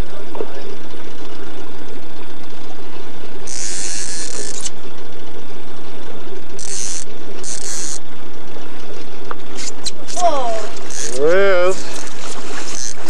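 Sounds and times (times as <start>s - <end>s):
low drone: 0.0s - 13.0s
fishing reel drag buzzing: 0.9s - 8.8s, 9.5s - 13.0s.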